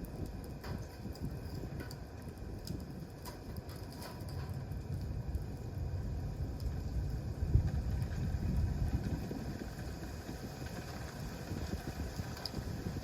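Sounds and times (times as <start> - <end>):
faint fire crackles: 0.0 - 13.0
flames rumbling: 0.0 - 13.0.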